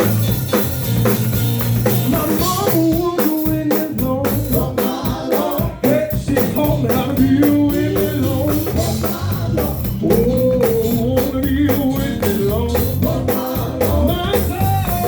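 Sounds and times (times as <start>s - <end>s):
bass guitar: 0.0s - 15.0s
drums: 0.0s - 15.0s
electric guitar: 0.0s - 15.0s
person singing: 2.0s - 15.0s.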